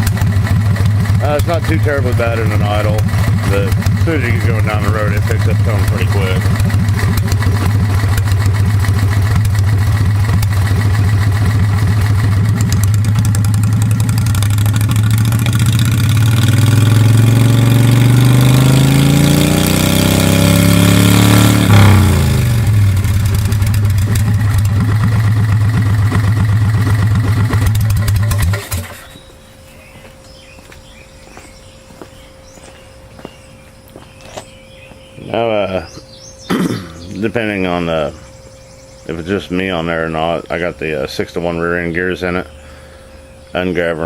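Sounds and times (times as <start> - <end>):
golf cart engine idling and revving: 0.0 - 29.4, 34.4 - 44.0.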